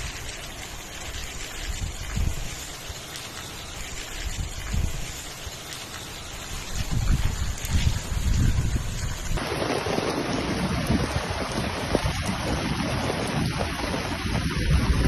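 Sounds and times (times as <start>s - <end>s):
wind buffeting microphone: 0.0s - 3.0s, 3.9s - 5.5s, 6.5s - 15.0s
rushing floodwater: 0.0s - 15.0s.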